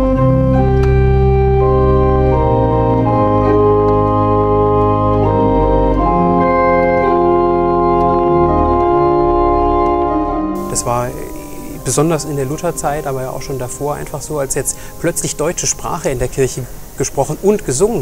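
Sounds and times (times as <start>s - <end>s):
deep organ pedal bass: 0.0s - 18.0s
pipe organ chords: 0.0s - 18.0s.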